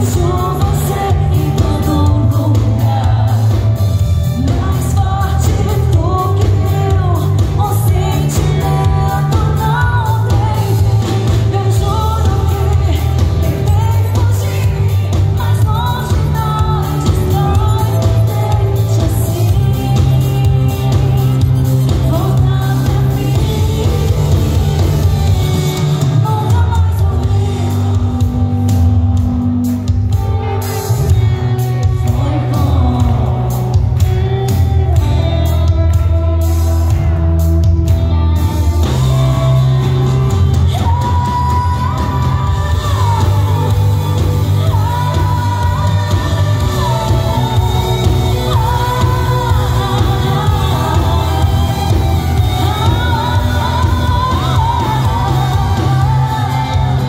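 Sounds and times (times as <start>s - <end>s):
woman singing into a microphone: 0.0s - 29.4s, 30.1s - 37.2s, 38.8s - 57.0s
live pop band: 0.0s - 57.0s.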